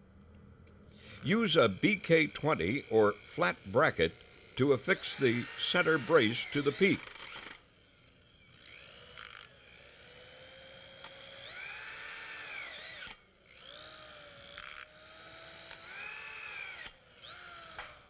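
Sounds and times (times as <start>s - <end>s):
power drill whine: 0.9s - 18.0s.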